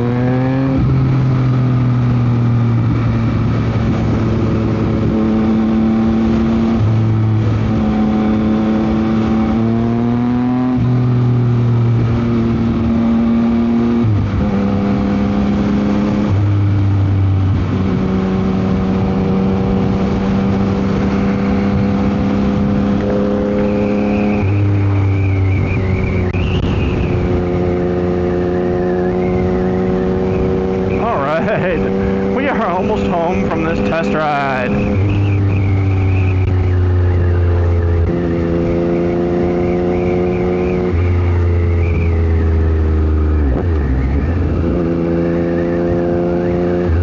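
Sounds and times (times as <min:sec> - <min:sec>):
motorcycle engine revving: 0:00.0 - 0:47.0
wind noise: 0:00.0 - 0:47.0.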